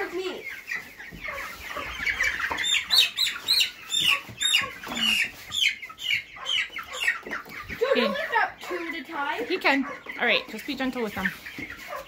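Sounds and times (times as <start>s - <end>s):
chickens peeping: 0.0s - 12.0s.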